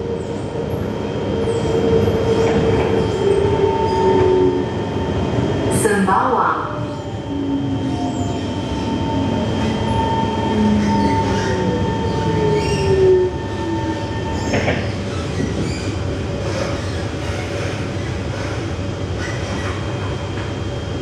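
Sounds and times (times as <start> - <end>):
steady train hum: 0.0 - 21.0.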